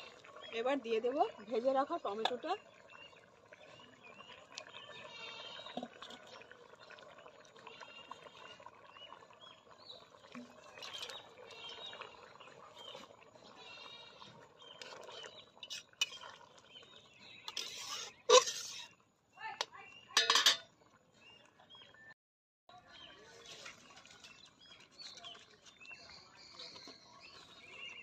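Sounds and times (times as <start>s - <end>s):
birds chirping: 0.0s - 20.6s, 21.2s - 28.0s
lentils bubbling in a pan: 0.0s - 22.1s, 22.9s - 28.0s.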